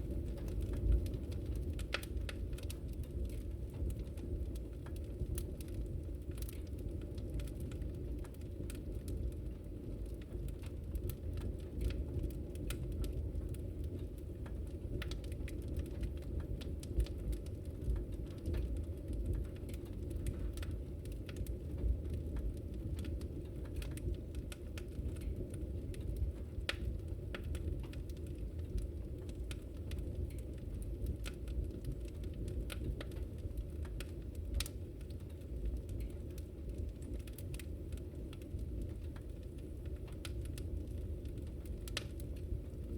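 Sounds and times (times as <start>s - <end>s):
low rumble of burning fire: 0.0s - 42.9s
wood fire pops and snaps: 0.0s - 42.9s.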